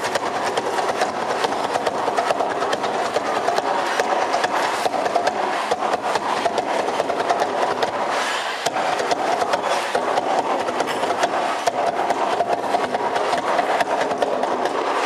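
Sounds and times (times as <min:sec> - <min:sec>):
drums beaten fast: 0:00.0 - 0:15.0.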